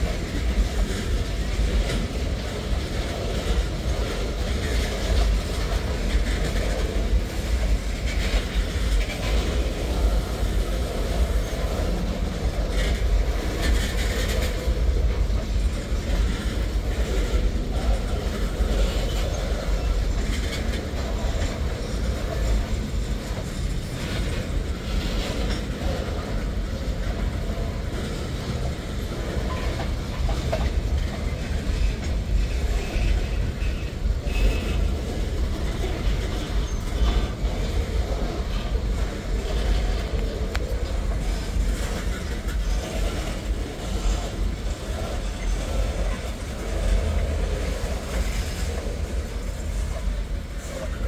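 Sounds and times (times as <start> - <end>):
freight train wheels rumbling on rail: 0.0 - 51.0
wheels clicking over rail joints: 0.0 - 51.0.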